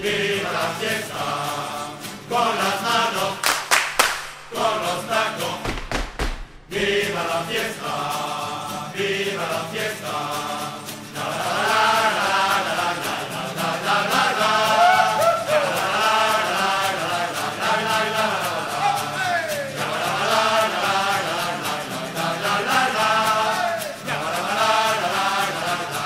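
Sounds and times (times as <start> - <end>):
group chanting in unison: 0.0 - 3.7, 4.5 - 5.7, 6.7 - 26.0.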